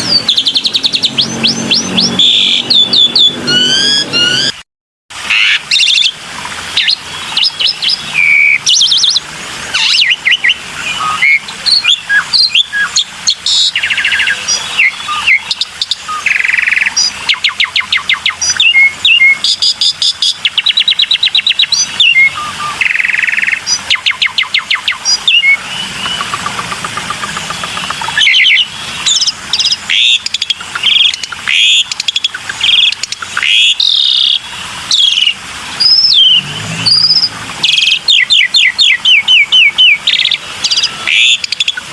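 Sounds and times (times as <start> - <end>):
starling singing: 0.0 - 4.6, 5.3 - 41.9.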